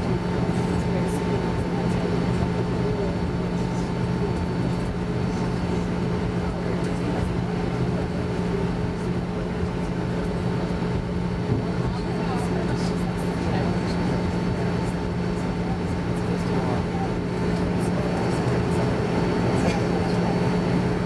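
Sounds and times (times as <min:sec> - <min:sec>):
aircraft cabin hum: 0:00.0 - 0:21.0.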